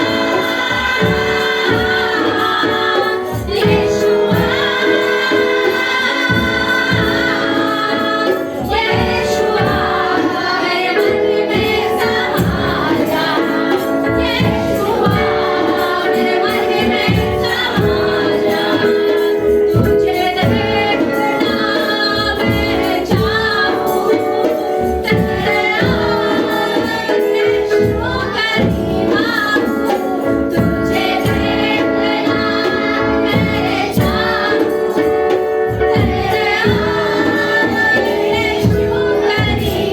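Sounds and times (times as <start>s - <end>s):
instrumental accompaniment: 0.0s - 39.9s
people singing worship song: 0.0s - 39.9s
steady percussive beat: 0.0s - 39.9s.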